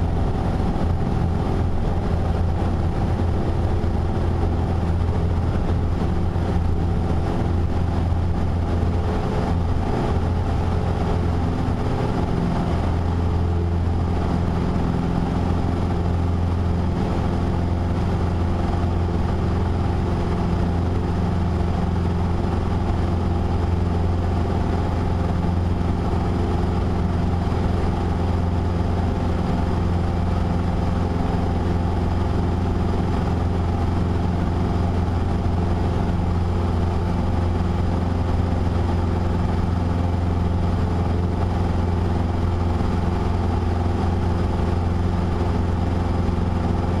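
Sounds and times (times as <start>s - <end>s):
light aircraft engine droning: 0.0s - 47.0s.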